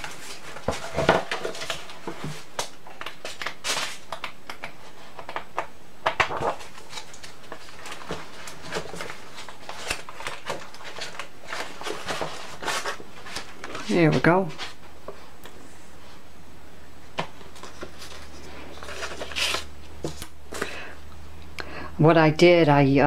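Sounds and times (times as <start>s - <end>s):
papers rustling and shuffling: 0.0s - 16.2s, 17.1s - 20.8s.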